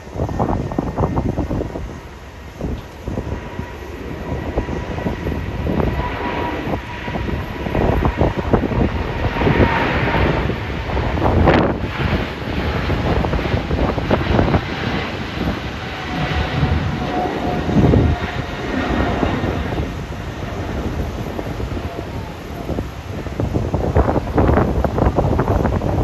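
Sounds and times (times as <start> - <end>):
jet engine rumble with whine: 0.0 - 26.0
wind buffeting microphone: 0.0 - 26.0.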